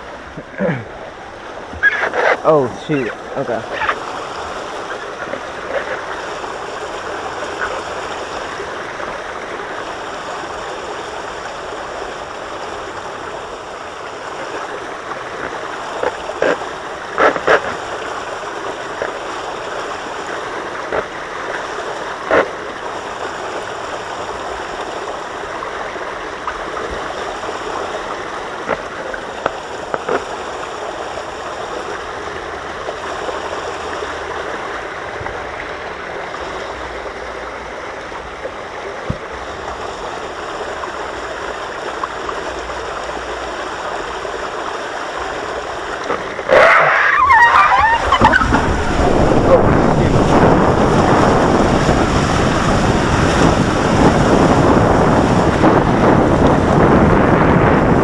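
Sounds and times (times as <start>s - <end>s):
water rushing along a slide: 0.0s - 58.0s.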